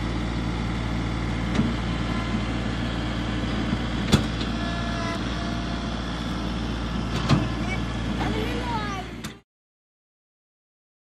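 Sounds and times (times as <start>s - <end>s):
motor idling hum: 0.0s - 9.4s.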